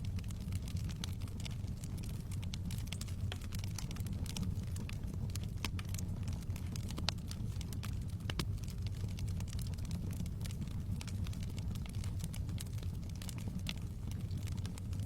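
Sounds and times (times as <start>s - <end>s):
steady low rumble: 0.0s - 15.0s
wood bonfire crackling: 0.0s - 15.0s.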